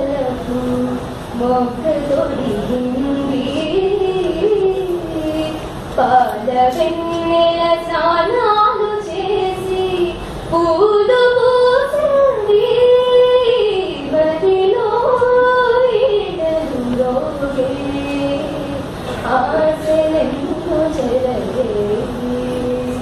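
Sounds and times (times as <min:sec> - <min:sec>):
girl singing: 0:00.0 - 0:23.0.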